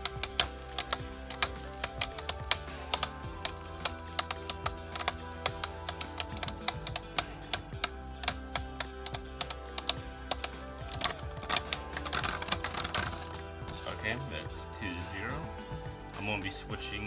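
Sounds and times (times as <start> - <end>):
background music with held tones: 0.0 - 17.0.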